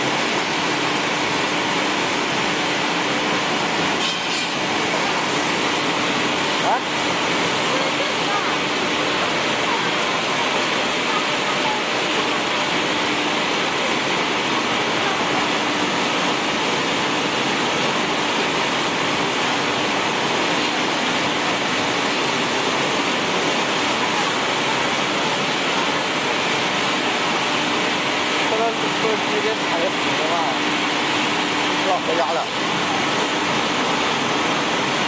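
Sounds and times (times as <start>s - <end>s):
pellet mill rushing: 0.0s - 35.0s.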